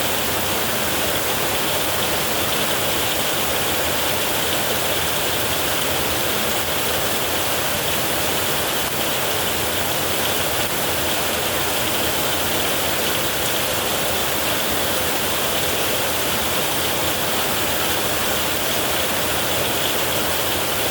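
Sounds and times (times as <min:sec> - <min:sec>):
heavy rain on metal roof: 0:00.0 - 0:20.9.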